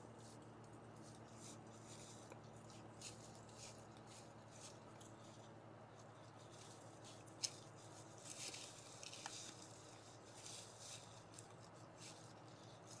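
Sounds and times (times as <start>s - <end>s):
rustling in dry leaves: 1.0s - 13.0s.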